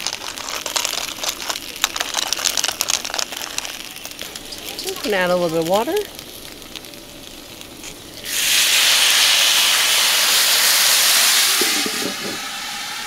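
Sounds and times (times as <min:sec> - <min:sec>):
water hissing on hot griddle: 0:00.0 - 0:13.0.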